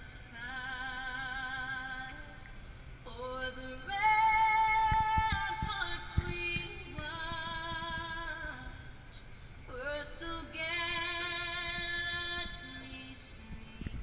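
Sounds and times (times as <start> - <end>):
woman singing slow song: 0.0 - 14.0.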